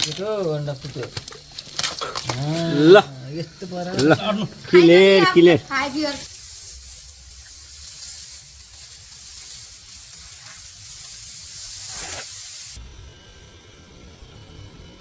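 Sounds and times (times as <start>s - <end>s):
meat sizzling: 0.0s - 12.8s.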